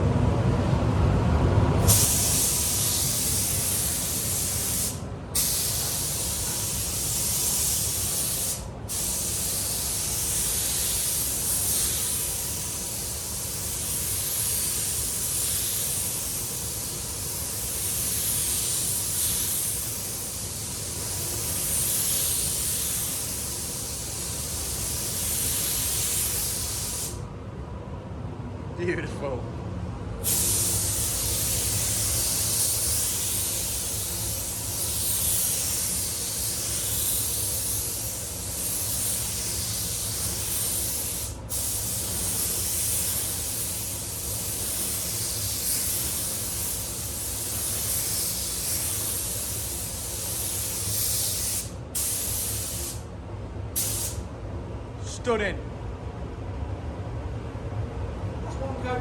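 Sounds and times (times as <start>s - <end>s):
spray gun hissing: 1.9s - 27.2s, 30.2s - 53.0s, 53.8s - 54.2s.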